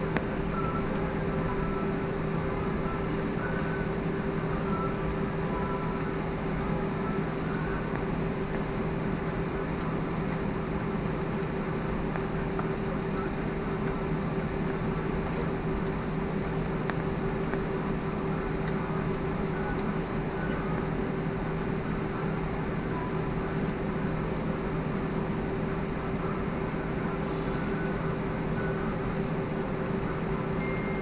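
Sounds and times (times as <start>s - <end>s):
airliner cabin hum: 0.0s - 31.0s.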